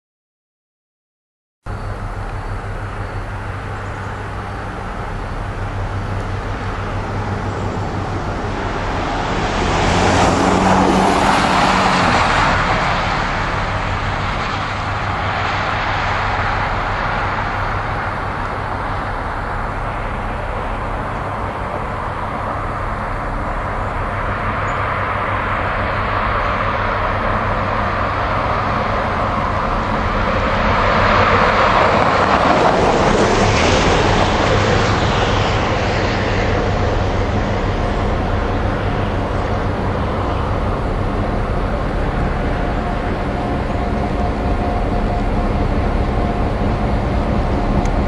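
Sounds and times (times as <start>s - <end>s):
car passing: 1.7s - 48.0s
diesel locomotive engine hum: 1.7s - 48.0s.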